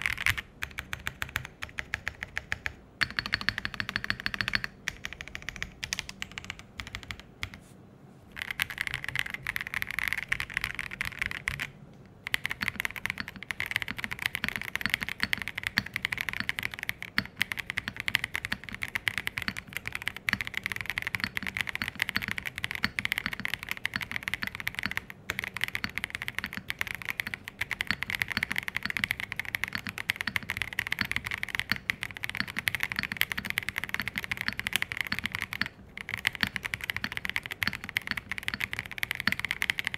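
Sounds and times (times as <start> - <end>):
mechanical keyboard typing: 0.0 - 7.6, 8.3 - 39.9.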